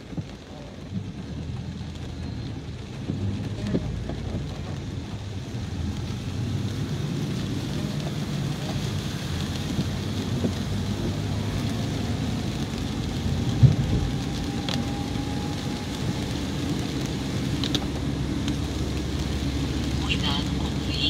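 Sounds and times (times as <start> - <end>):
engine and tyres rumbling: 0.0 - 21.0
rain hiss: 0.0 - 21.0.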